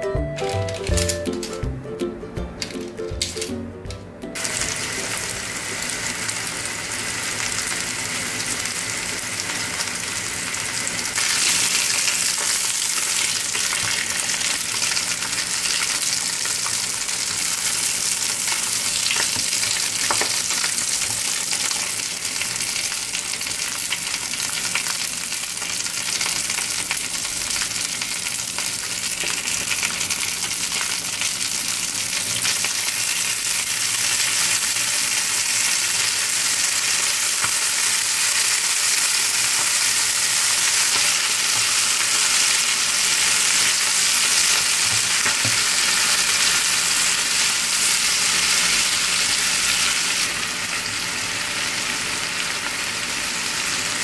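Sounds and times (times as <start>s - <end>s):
fish sizzling in frying pan: 4.4s - 54.0s.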